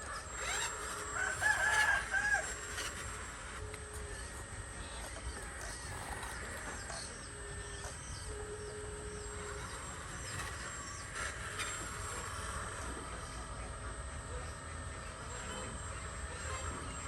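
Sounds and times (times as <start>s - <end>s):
brief steady whine: 0.0s - 17.0s
steady low hum: 0.0s - 17.0s.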